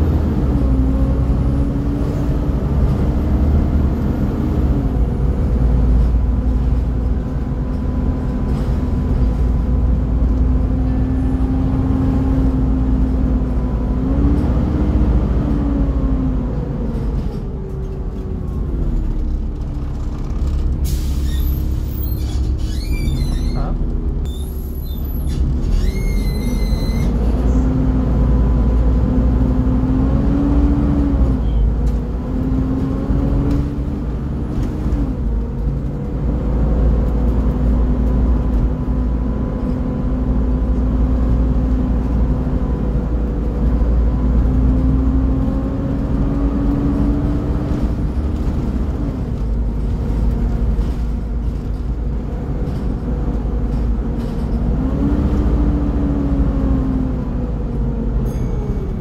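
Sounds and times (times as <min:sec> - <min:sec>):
bus diesel engine whine and rumble: 0:00.0 - 0:59.0.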